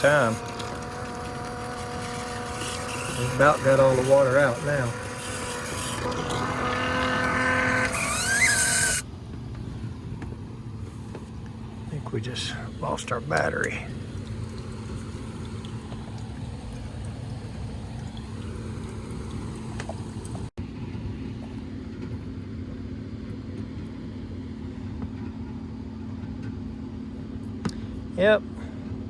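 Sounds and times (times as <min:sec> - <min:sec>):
air conditioner humming: 0:00.0 - 0:25.0.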